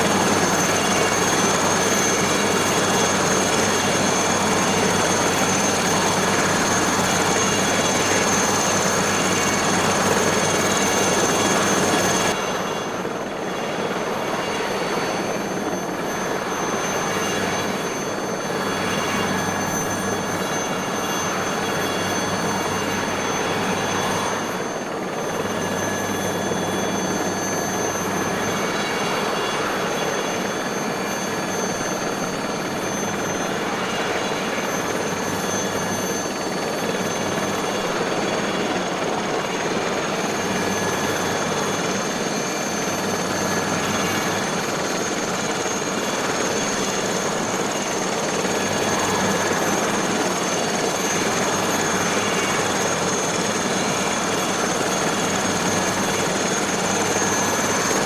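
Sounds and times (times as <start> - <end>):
helicopter rotor and engine noise: 0.0 - 58.0
high turbine whine: 0.0 - 58.0.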